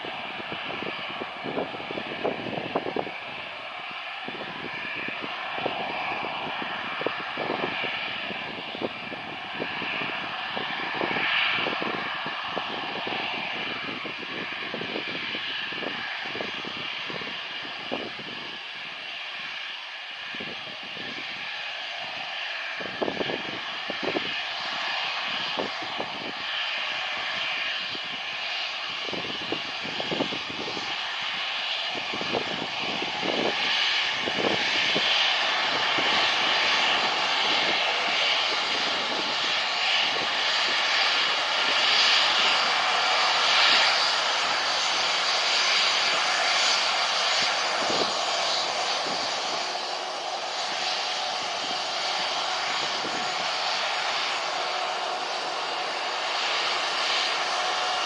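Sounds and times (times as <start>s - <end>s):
jet engines whining: 0.0s - 58.0s
wind buffeting microphone: 0.0s - 58.0s.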